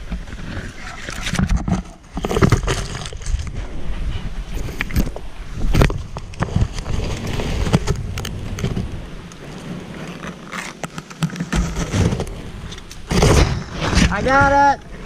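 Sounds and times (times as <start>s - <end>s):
leaves rustling against camera: 0.0s - 15.0s.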